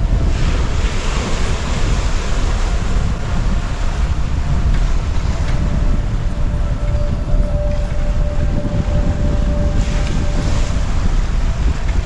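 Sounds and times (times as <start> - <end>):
waves breaking: 0.0 - 12.0
wind buffeting microphone: 0.0 - 12.0.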